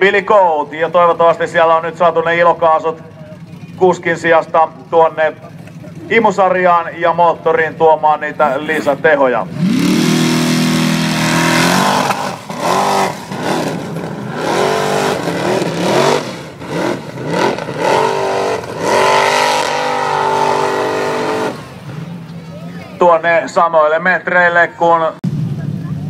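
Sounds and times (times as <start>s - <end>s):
buggy engine revving: 0.0s - 26.0s.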